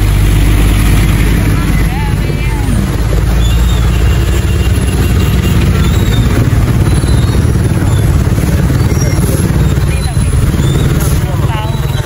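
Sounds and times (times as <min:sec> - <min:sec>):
motorcycle engine: 0:00.0 - 0:12.0
trucks idling: 0:00.0 - 0:12.0.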